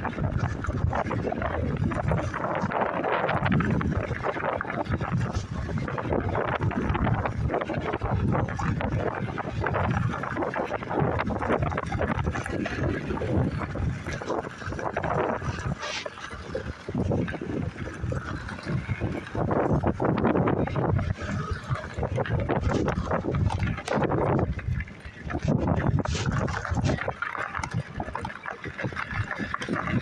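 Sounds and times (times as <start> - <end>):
wind buffeting microphone: 0.0 - 30.0
fabric rubbing on microphone: 0.1 - 30.0.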